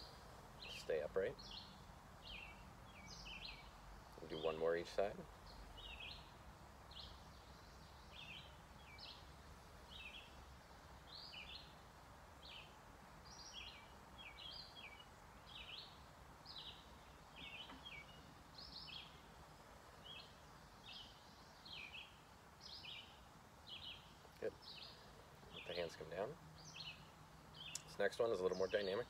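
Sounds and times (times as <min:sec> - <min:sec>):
outdoor background hiss: 0:00.0 - 0:29.0
songbirds chirping: 0:00.0 - 0:29.0.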